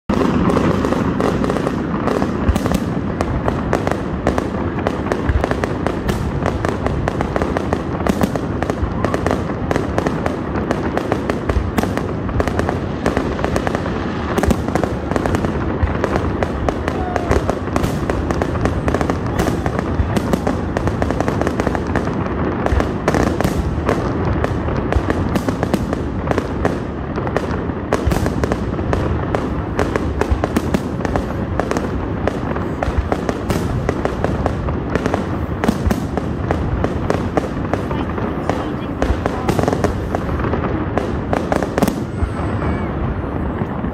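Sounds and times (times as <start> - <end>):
fireworks booming and crackling: 0.0 - 43.9.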